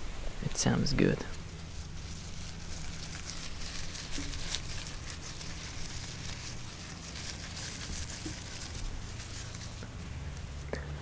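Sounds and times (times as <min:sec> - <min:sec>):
high rustle: 0:01.0 - 0:10.8
small crackles: 0:01.2 - 0:10.9.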